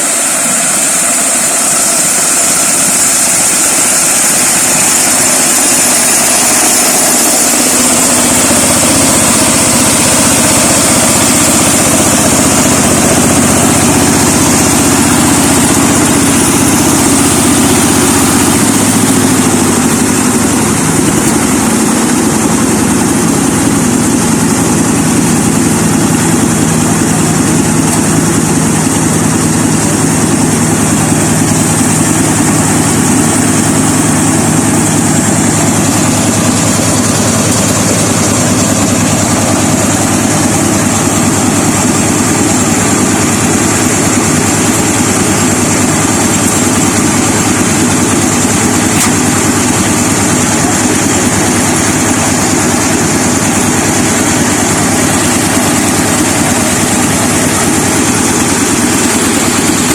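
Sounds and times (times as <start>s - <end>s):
harvester engine running: 0.0s - 59.9s.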